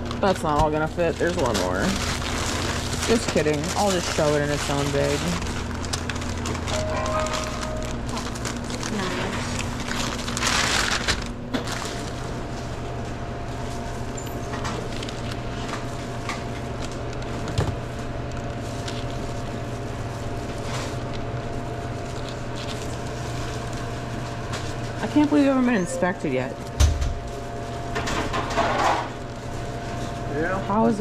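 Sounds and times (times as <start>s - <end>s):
mechanical hum: 0.0s - 31.0s
plastic bag rustling: 0.0s - 31.0s.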